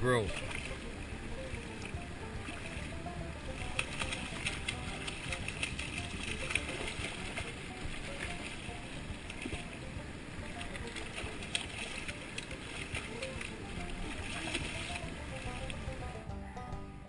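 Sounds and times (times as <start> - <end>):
river water rushing: 0.0 - 16.3
faint music: 0.0 - 17.0
fish splashing at surface: 0.3 - 16.0.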